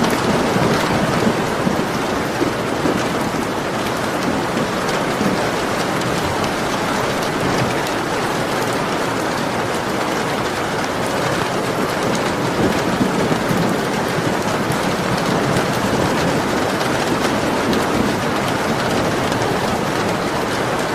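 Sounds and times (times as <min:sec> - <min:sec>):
heavy rain hissing: 0:00.0 - 0:20.9
raindrops pattering: 0:00.0 - 0:20.9.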